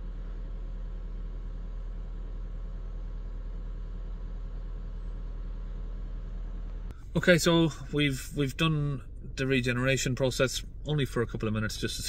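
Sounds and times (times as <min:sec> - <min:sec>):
diesel engine idling: 0:00.2 - 0:12.0.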